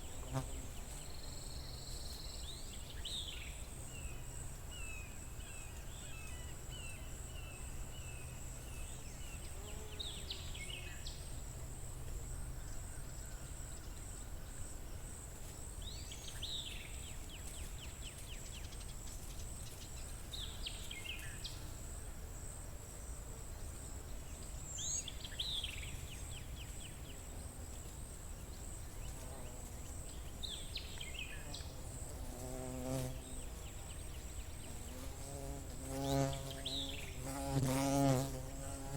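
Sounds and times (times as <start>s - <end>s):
songbird singing: 0.0s - 11.4s, 15.8s - 22.1s, 23.5s - 38.9s.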